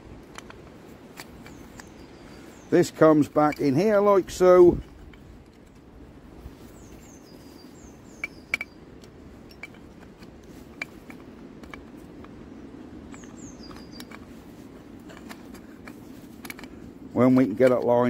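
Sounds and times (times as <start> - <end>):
small parts clicking and tapping: 0.2 - 2.1, 3.2 - 5.9, 8.1 - 18.0
bird chirping: 1.2 - 5.0, 6.5 - 11.2, 11.9 - 18.0.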